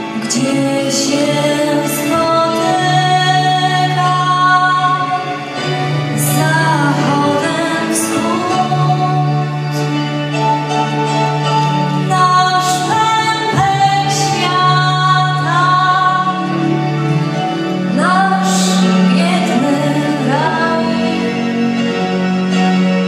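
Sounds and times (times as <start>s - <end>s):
sustained instrumental accompaniment: 0.0s - 23.0s.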